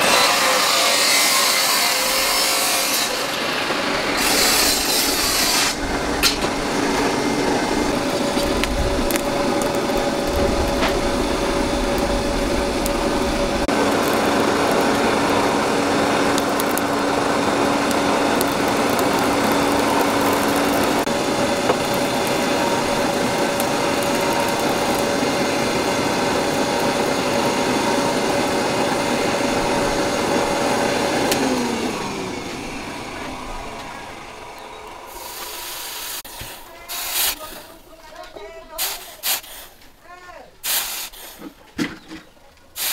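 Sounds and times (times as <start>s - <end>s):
blower fan whining: 0.0s - 42.0s.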